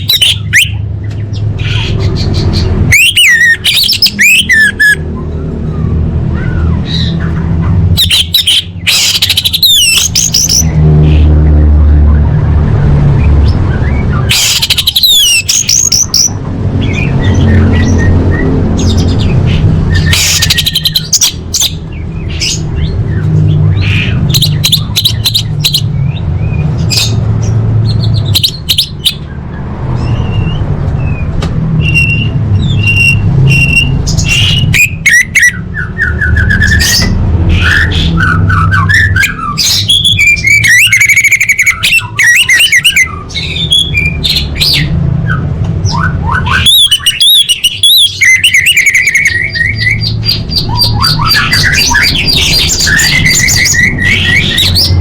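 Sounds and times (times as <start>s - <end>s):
thrush singing: 0.0s - 55.0s.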